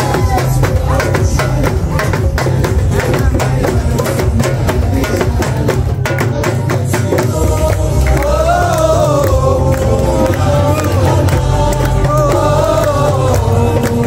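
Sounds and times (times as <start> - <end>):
drum beaten in fast rhythm: 0.0 - 14.0.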